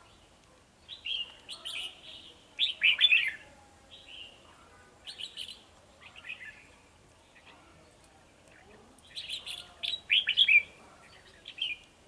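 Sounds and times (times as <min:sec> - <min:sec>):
birds singing chirpy phrases: 0:00.0 - 0:11.9.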